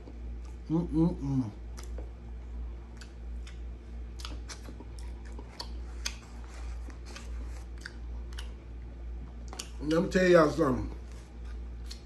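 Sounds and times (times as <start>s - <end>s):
person chewing with mouth clicks: 0.0s - 9.8s, 11.8s - 12.0s
steady low hum: 0.0s - 12.0s.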